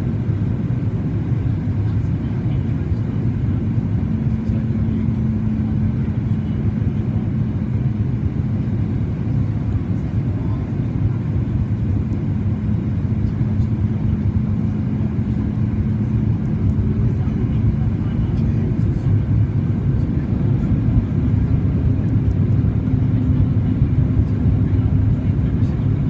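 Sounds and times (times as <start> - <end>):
airplane engines and airflow rumble: 0.0 - 26.0.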